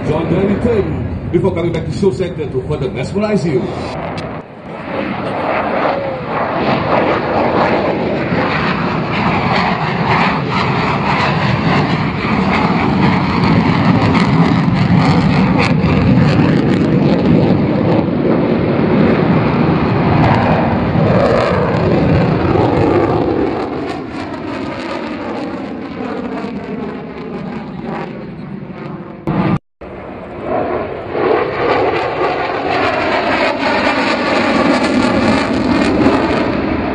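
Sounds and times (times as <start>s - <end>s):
jet aircraft engine roar: 0.0s - 36.9s.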